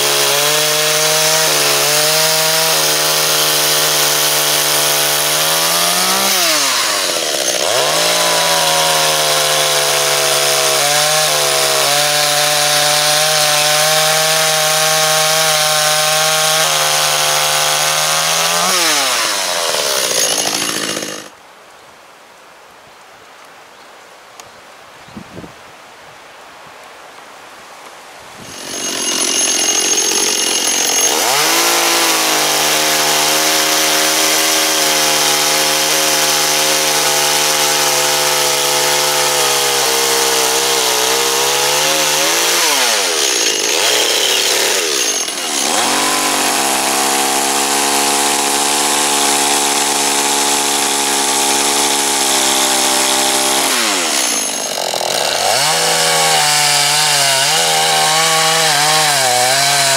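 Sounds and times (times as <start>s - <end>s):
chainsaw cutting wood: 0.0s - 21.4s, 28.4s - 59.9s.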